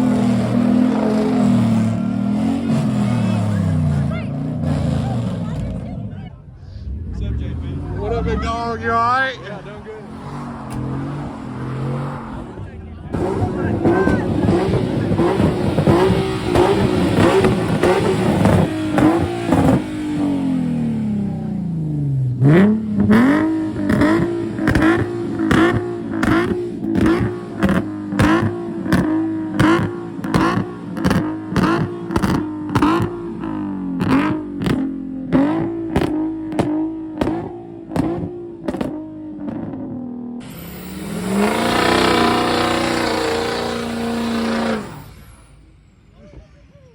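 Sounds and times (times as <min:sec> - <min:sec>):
truck engine revving: 0:00.0 - 0:45.8.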